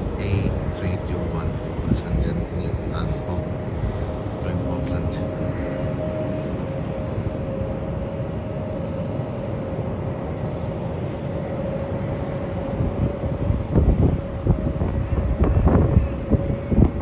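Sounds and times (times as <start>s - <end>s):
distant jet engines running: 0.0s - 17.0s
wind buffeting microphone: 0.0s - 17.0s.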